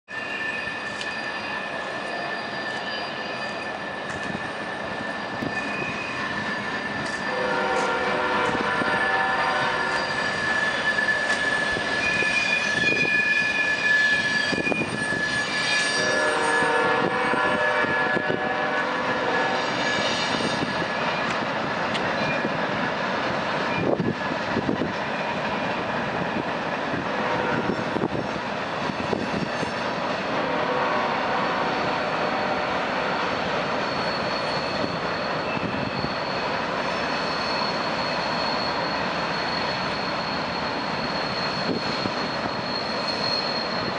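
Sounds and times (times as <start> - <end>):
high-pitched wheel squeals: 0.1 - 21.4, 27.2 - 30.2, 30.8 - 43.9
train wheels grinding on rails: 0.1 - 43.9.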